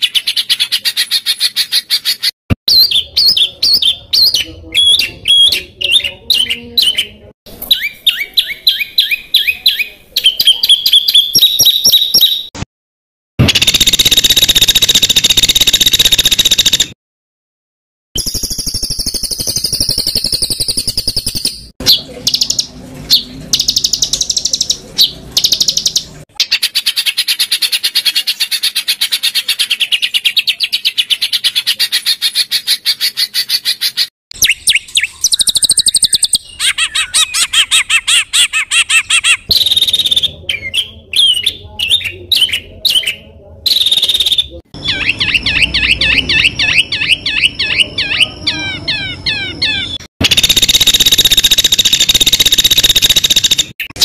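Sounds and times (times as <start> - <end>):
songbirds singing trills: 0.0 - 12.6, 18.2 - 54.0.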